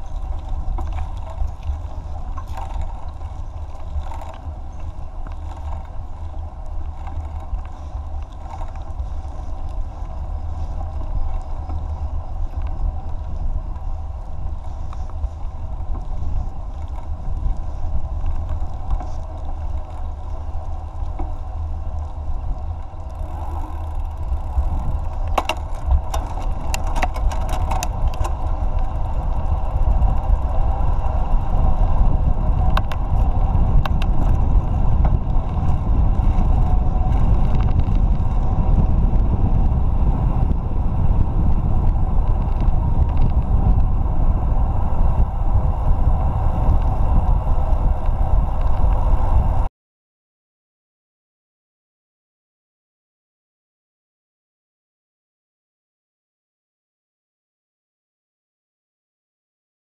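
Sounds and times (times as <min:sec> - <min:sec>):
bicycle clicks and rattles: 0:00.0 - 0:49.7
tyres humming on asphalt: 0:00.0 - 0:49.7
wind rumbling on microphone: 0:00.0 - 0:49.7.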